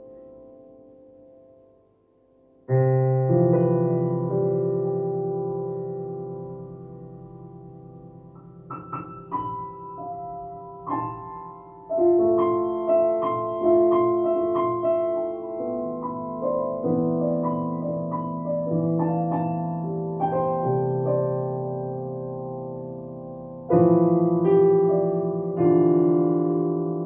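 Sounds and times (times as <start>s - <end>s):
digital piano playing slowly: 0.0s - 27.0s.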